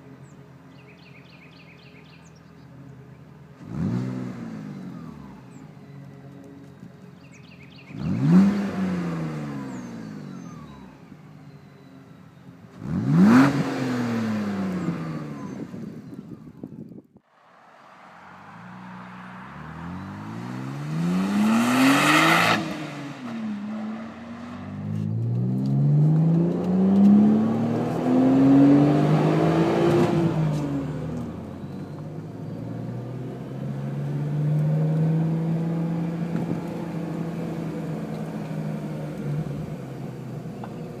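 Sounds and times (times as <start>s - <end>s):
car engine revving: 3.6s - 6.0s, 7.7s - 11.0s, 12.7s - 16.6s, 17.3s - 41.0s.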